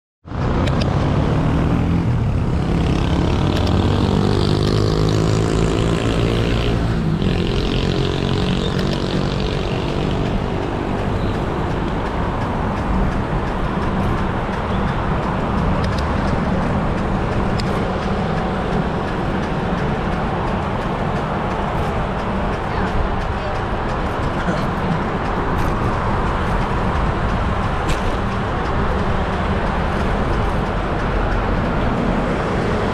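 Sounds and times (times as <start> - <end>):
traffic and road rumble: 0.2 - 32.9
vehicle engine humming: 0.3 - 32.9.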